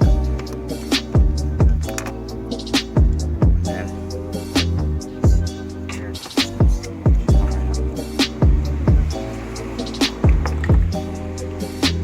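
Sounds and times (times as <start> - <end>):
hip-hop beat music: 0.0 - 12.0.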